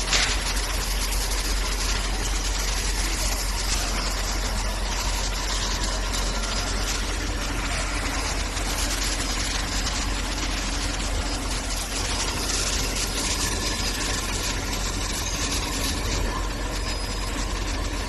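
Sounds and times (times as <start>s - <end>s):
factory machinery hum and clatter: 0.0s - 18.0s.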